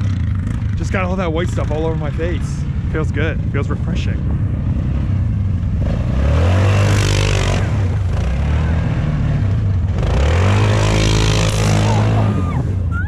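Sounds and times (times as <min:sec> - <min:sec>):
quad bike engine revving: 0:00.0 - 0:13.0.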